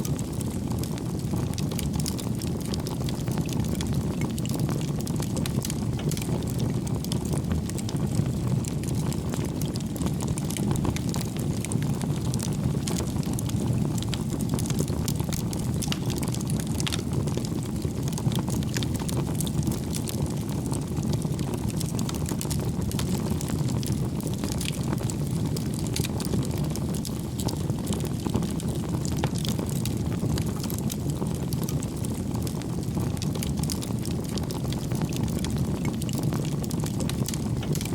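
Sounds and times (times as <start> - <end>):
burning logs crackling and popping: 0.0 - 37.9
fire flames rumbling: 0.0 - 37.9.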